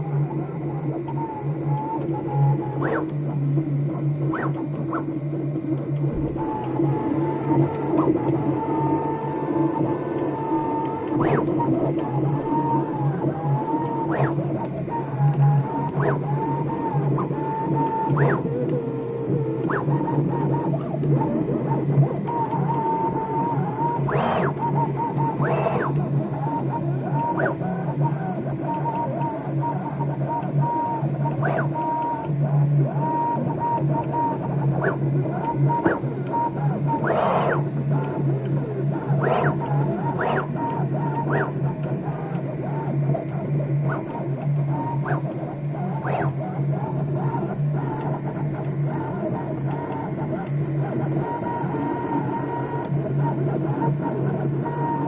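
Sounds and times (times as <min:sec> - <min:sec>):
steady low hum: 0:00.0 - 0:52.8
stepper motors whining: 0:01.0 - 0:55.0.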